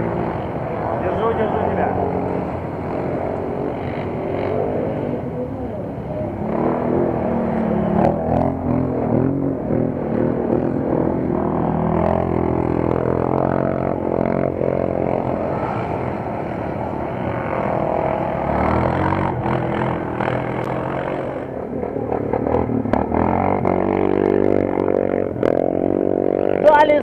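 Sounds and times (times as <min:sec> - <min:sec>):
quad bike engines revving: 0:00.0 - 0:27.0.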